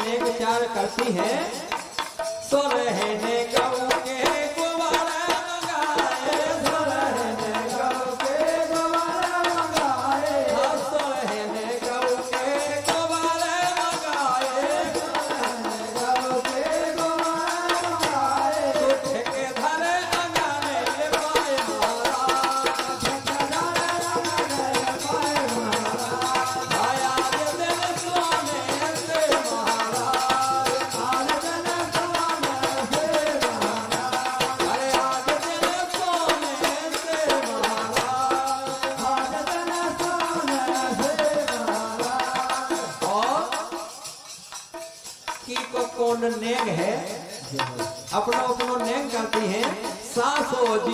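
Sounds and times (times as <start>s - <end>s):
man singing into microphone: 0.0s - 44.2s, 45.4s - 50.9s
hand drum rhythm: 0.0s - 50.9s.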